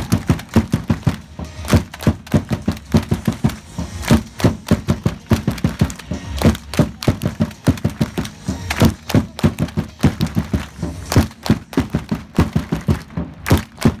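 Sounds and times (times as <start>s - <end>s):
crowd clapping in rhythm: 0.0s - 14.0s.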